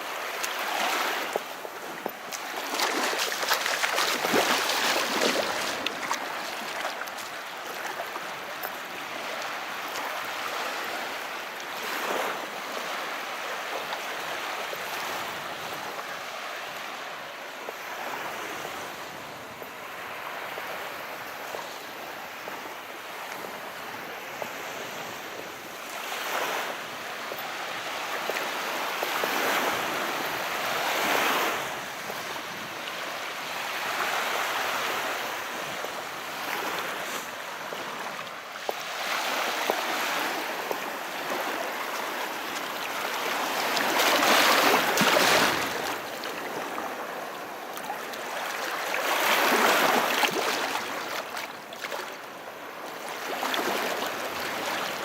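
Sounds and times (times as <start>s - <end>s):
small waves washing: 0.0s - 16.9s, 17.7s - 55.0s.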